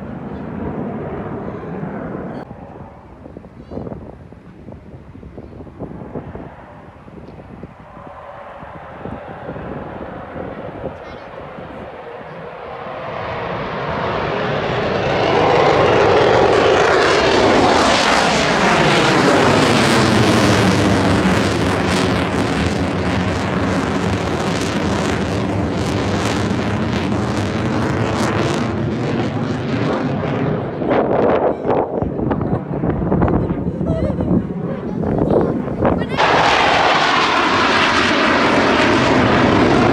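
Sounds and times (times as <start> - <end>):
jet fighter roaring past: 0.0 - 3.3, 5.8 - 39.9.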